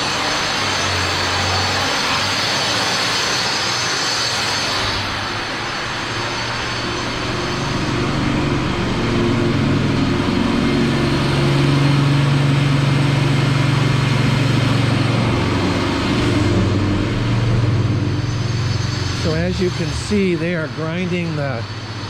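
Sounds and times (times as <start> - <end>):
floor grinder running: 0.0 - 22.0.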